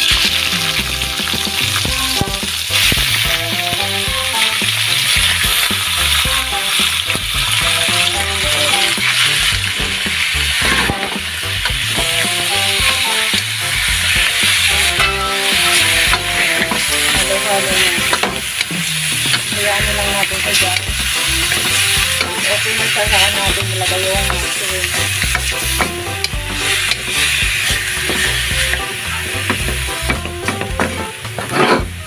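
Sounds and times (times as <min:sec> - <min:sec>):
chicken sizzling in a wok: 0:00.0 - 0:32.0
wooden spatula scraping a pan: 0:00.2 - 0:32.0.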